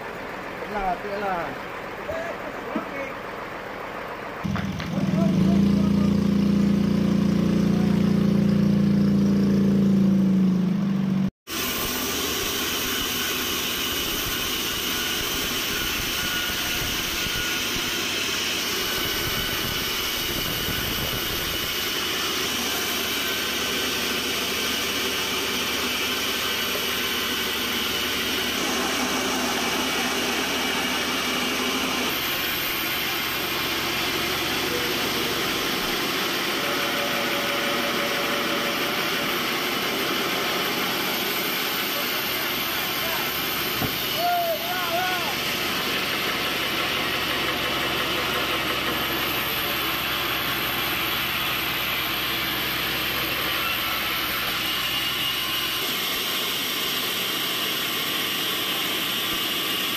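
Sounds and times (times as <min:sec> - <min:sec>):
band saw machinery humming: 0:00.0 - 0:59.9.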